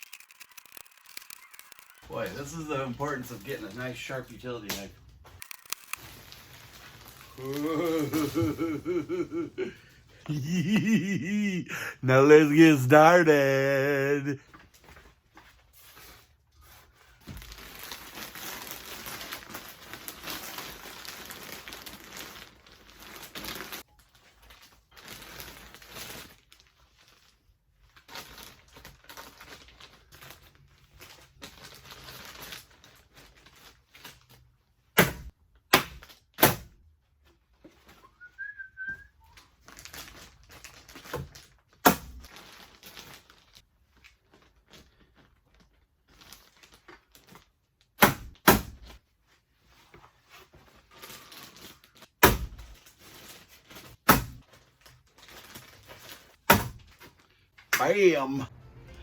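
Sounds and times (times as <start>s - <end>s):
insulation rustling and crinkling: 0.0s - 10.2s, 12.2s - 34.8s, 39.2s - 47.9s, 48.8s - 58.0s.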